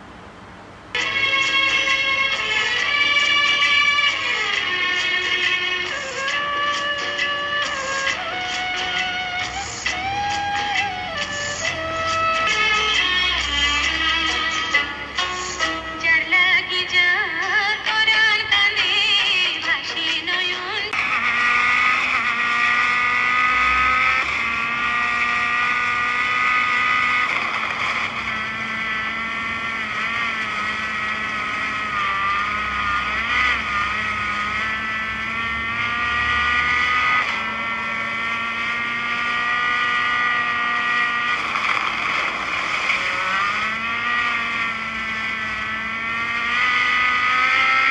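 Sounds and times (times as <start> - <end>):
engine drone: 0.0 - 19.7, 20.5 - 47.9.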